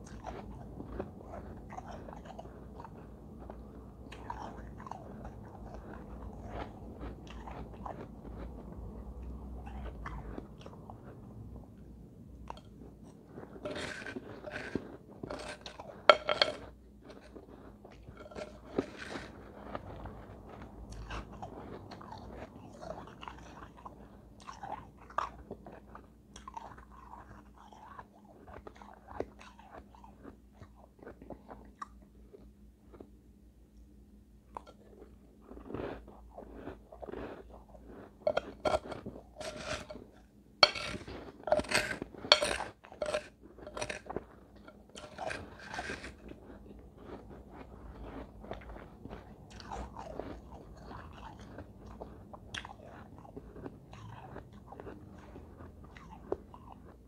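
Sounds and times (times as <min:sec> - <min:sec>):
chewing and crunching ice: 0:00.0 - 0:33.2, 0:34.5 - 0:57.0.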